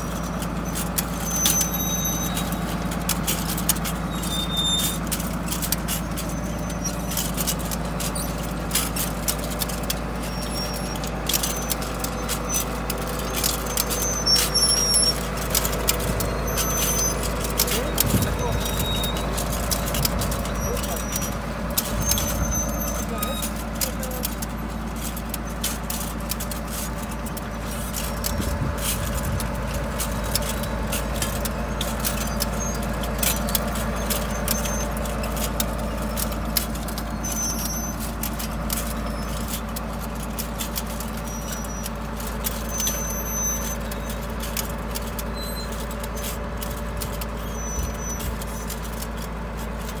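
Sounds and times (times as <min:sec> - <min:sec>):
metallic clicks and rattles: 0:00.0 - 0:50.0
tractor engine running: 0:00.0 - 0:50.0.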